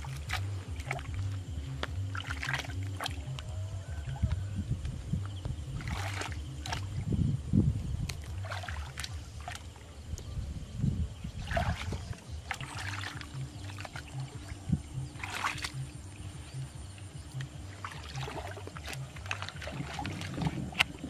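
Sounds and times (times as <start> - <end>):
muddy water splashing: 0.0 - 7.2, 7.8 - 10.3, 11.1 - 21.0
steady low rumble: 0.0 - 21.0.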